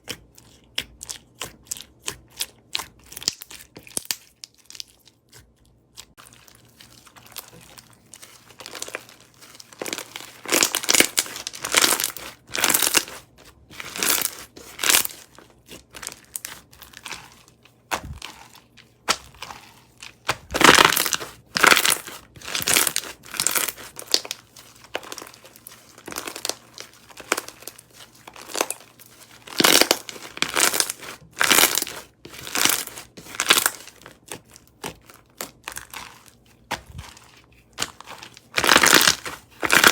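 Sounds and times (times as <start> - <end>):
crunchy slime crackling: 0.8 - 39.9.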